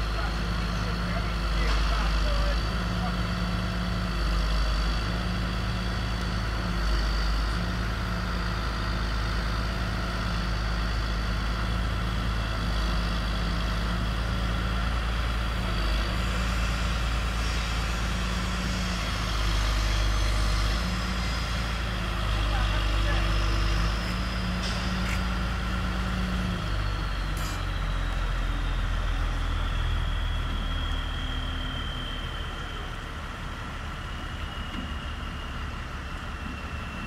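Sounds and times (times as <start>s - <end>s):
crane diesel engine running: 0.0s - 37.0s.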